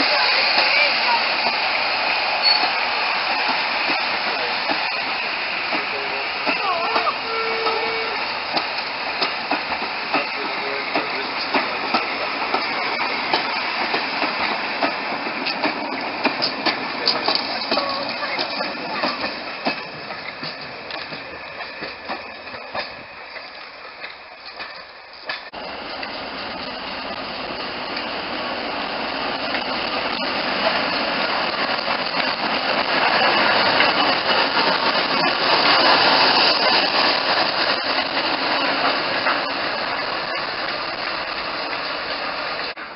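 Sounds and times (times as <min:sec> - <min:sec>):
diesel locomotive engine clatter: 0:00.0 - 0:42.9
train rumble and hiss: 0:00.0 - 0:42.9
wheels clicking over rail joints: 0:00.0 - 0:42.9.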